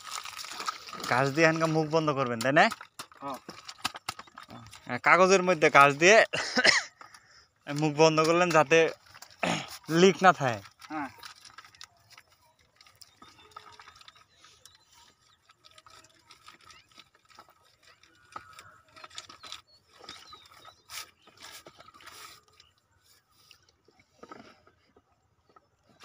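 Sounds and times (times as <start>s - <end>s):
clicks rustles and scrapes: 0.0s - 26.0s.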